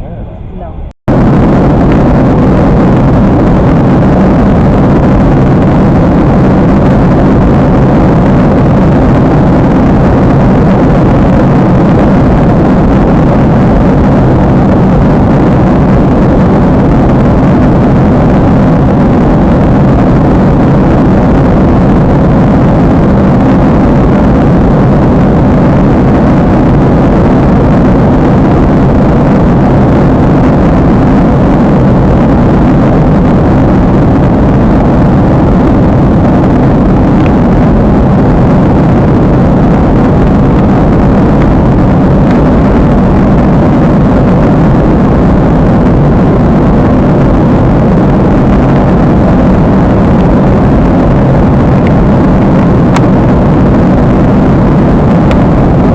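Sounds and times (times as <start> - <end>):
jet engine noise in airliner cabin: 0.0 - 55.9.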